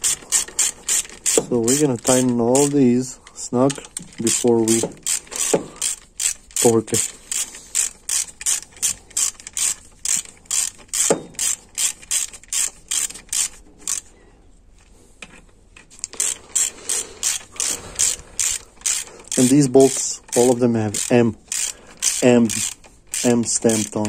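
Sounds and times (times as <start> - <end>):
hand ratchet clicking: 0.0 - 14.1, 15.8 - 24.0.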